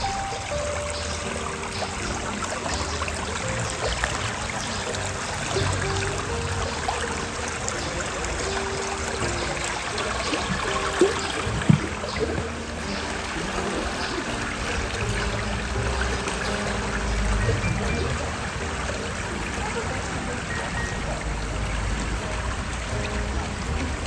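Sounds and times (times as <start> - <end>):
stream rushing over stones: 0.0 - 24.0.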